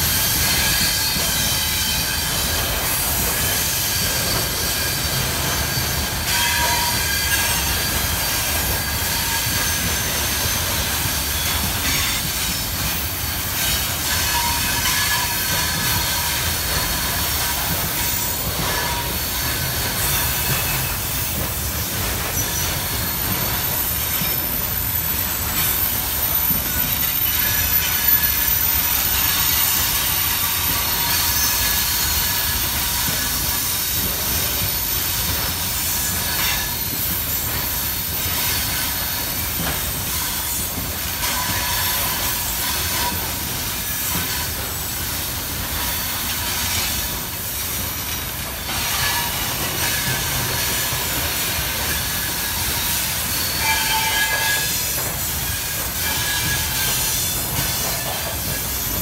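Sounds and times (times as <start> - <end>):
high squealing wheels: 0.0 - 59.0
train wheels rumbling on rails: 0.0 - 59.0.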